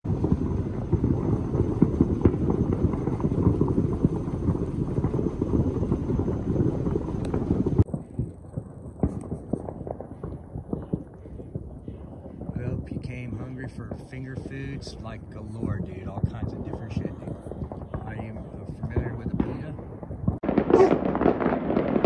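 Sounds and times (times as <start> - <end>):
distant fireworks crackling and booming: 0.0 - 22.0.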